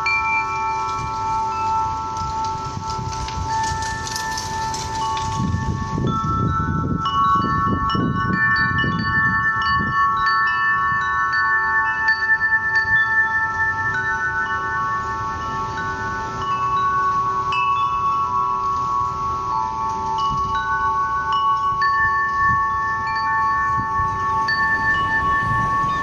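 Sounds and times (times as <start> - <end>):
metal wind chimes ringing: 0.0 - 26.0.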